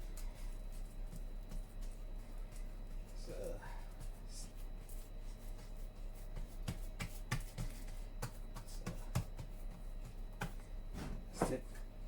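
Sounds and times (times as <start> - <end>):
hands patting dough on board: 0.0 - 11.9
low steady hum: 0.0 - 12.0.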